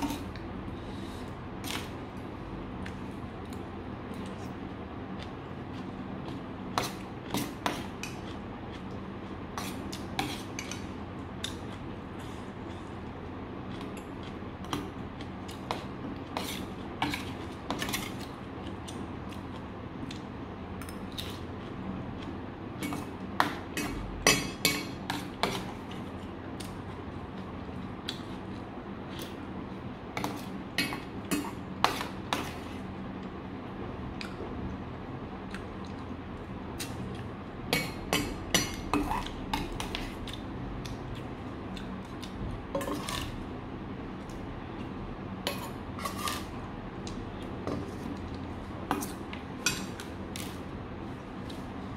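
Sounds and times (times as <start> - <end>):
steady background noise: 0.0 - 51.9.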